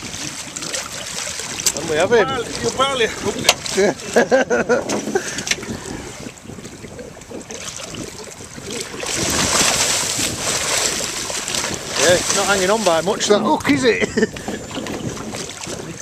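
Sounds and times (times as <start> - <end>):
fish thrashing and splashing: 0.0 - 13.8, 14.4 - 16.0
sea noise: 0.0 - 16.0
wind: 0.0 - 16.0.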